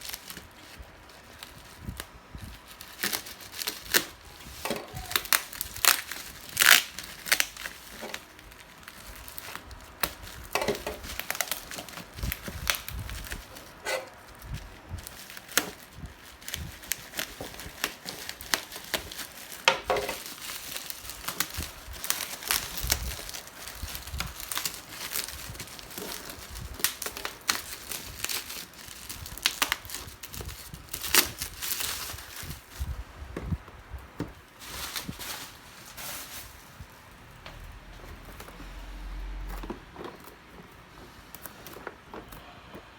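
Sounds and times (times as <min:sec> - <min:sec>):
packaging crinkling: 0:00.0 - 0:42.9.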